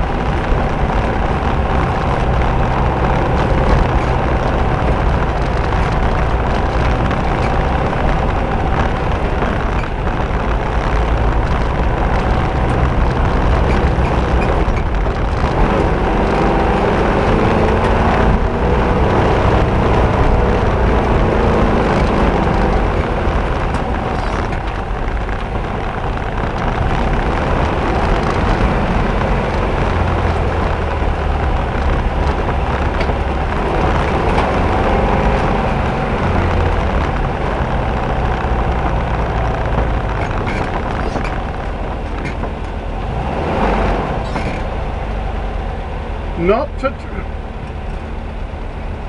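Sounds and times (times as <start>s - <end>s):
car engine running: 0.0s - 49.0s.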